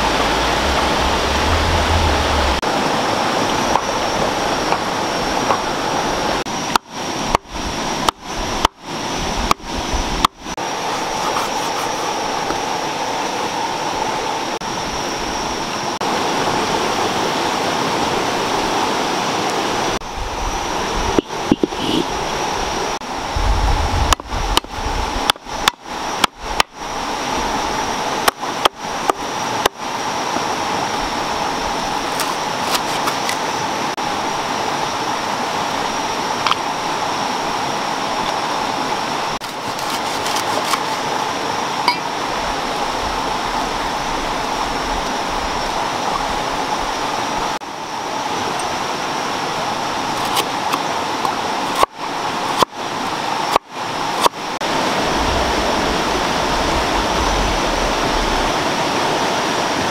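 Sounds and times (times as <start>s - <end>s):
rushing stream: 0.0s - 59.9s.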